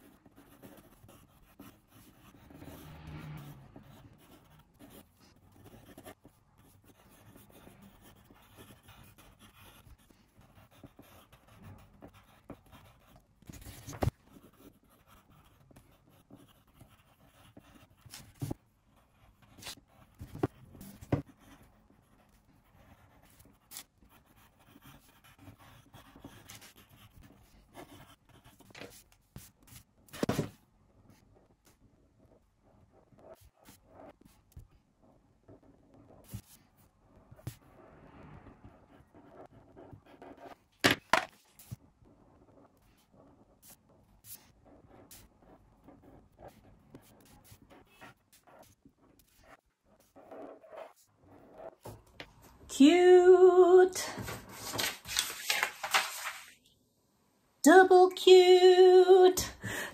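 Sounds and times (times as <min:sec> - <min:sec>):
pencil scratching on paper: 0:00.0 - 0:53.2.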